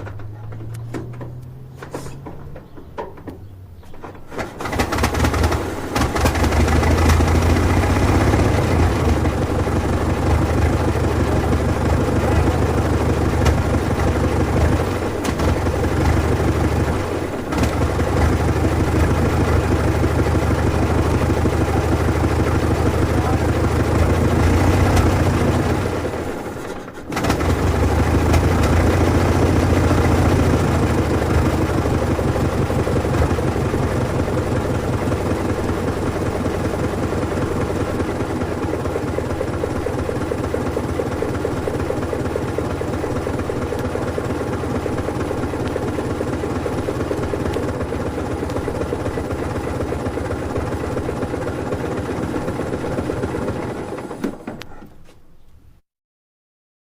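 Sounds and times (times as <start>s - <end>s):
old car engine running: 0.0s - 55.2s.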